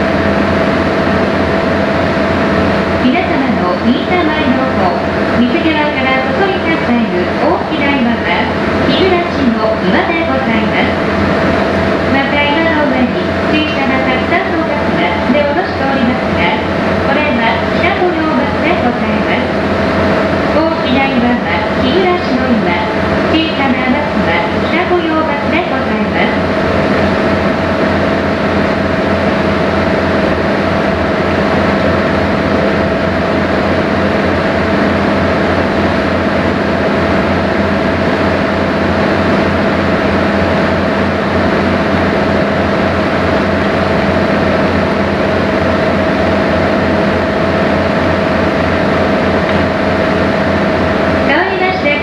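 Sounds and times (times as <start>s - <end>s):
boat engine droning: 0.0s - 52.0s.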